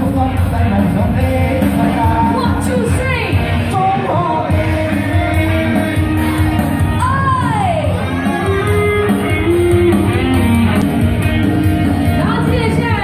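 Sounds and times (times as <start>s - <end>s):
keyboard: 0.0s - 13.0s
live rock band playing: 0.0s - 13.0s.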